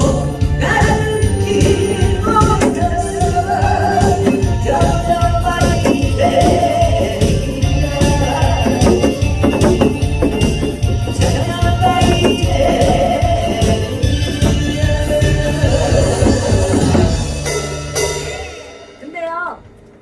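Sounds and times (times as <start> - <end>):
upbeat music with fast beat: 0.0 - 18.2.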